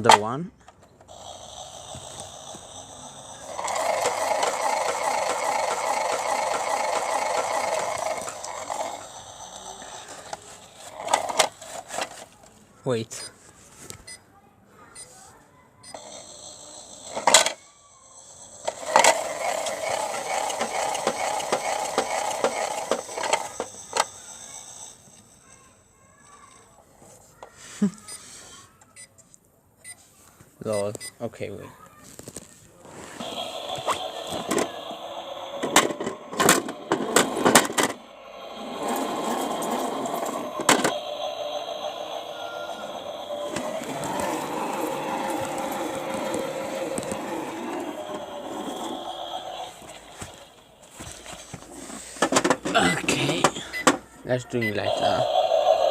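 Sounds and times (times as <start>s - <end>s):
toy washing machine whirring: 0.9s - 12.4s, 15.8s - 28.2s, 32.8s - 55.9s.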